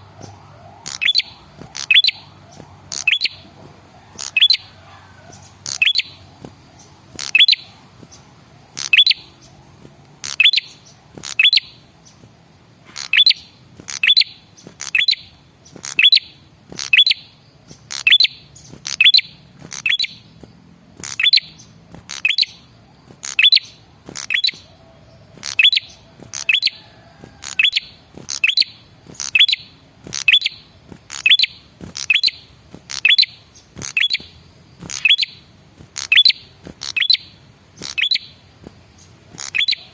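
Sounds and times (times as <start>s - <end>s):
bird high sharp chirps: 0.2s - 39.9s.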